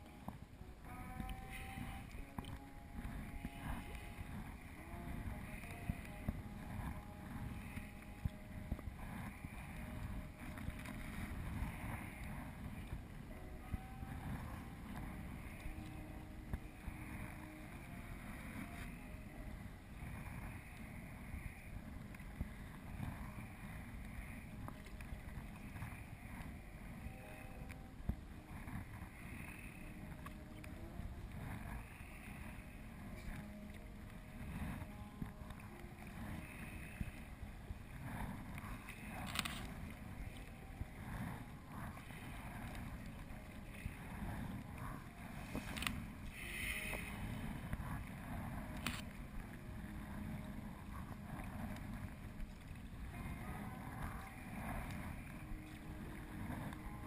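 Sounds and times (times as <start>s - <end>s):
paddle blades dipping: 0.0s - 57.0s
wind rumble on microphone: 0.0s - 57.0s
water sloshing against hull: 0.1s - 57.0s.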